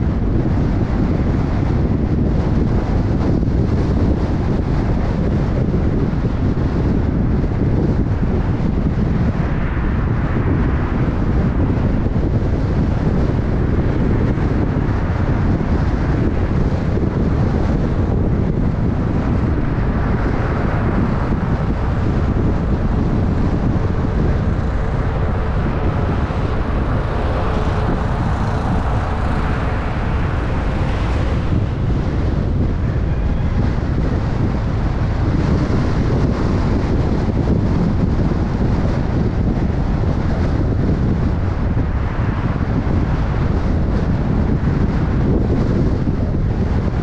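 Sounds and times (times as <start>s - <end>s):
road and engine noise: 0.0s - 47.0s
wind rushing over microphone: 0.0s - 47.0s.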